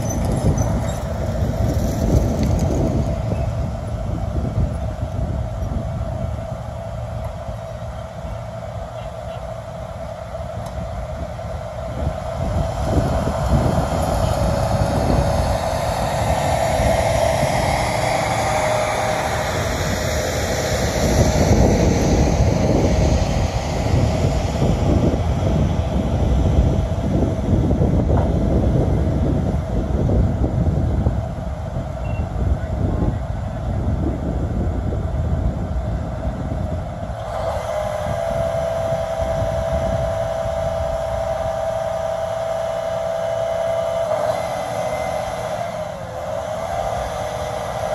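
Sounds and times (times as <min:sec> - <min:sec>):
diesel machinery rumbling: 0:00.0 - 0:47.9
higher machine whine: 0:00.0 - 0:47.9.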